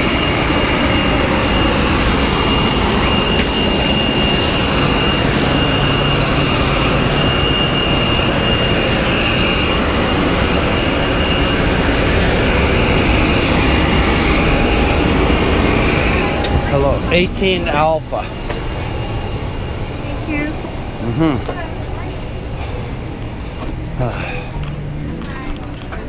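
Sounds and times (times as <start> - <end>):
high turbine whine: 0.0 - 26.0
jet turbine rushing: 0.0 - 26.0.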